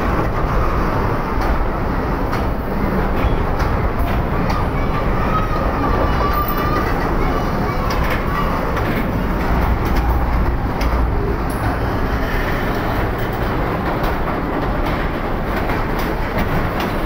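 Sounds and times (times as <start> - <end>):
train wheel clacks: 0.0 - 17.0
train wheels rumbling on rails: 0.0 - 17.0.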